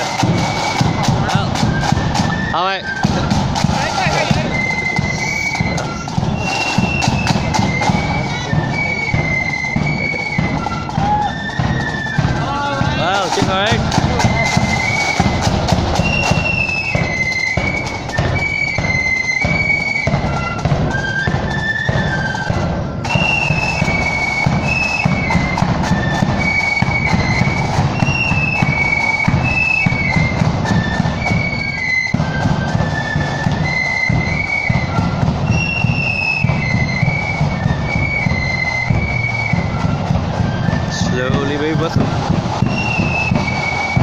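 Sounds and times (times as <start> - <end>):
flute band melody: 0.0 - 44.0
side drums beating: 0.0 - 44.0.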